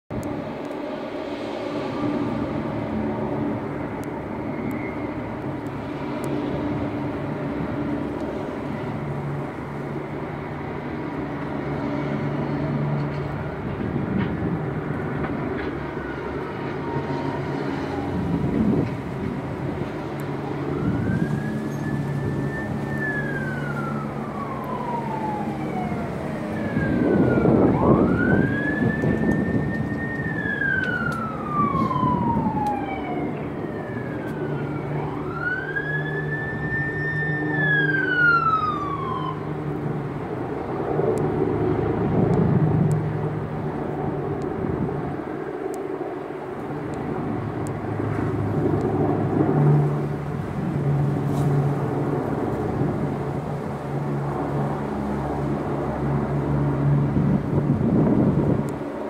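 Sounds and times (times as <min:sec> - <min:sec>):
emergency siren wailing: 0:00.1 - 0:59.0.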